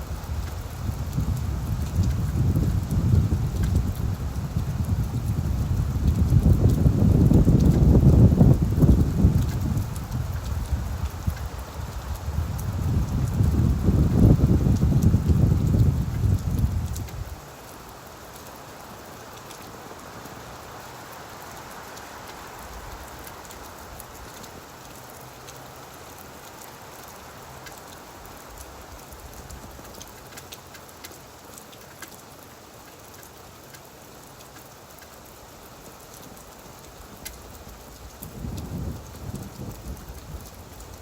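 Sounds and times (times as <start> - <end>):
rain falling on leaves: 0.0 - 41.0.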